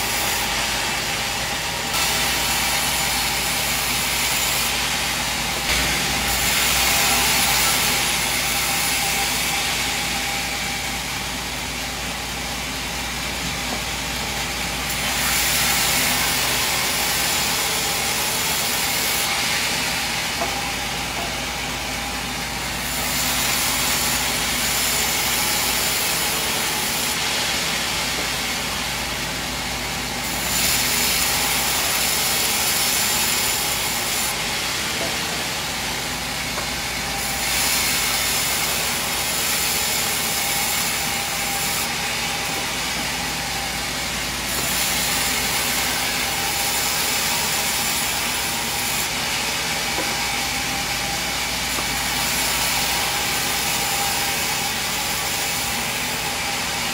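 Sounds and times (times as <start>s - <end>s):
band saw cutting timber: 0.0s - 56.9s.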